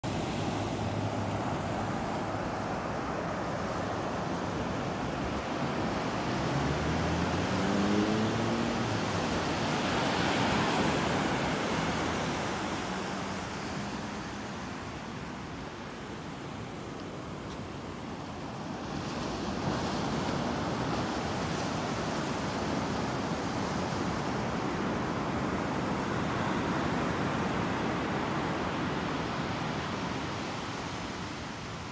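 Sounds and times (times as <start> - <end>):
ocean surf breaking: 0.0 - 31.8.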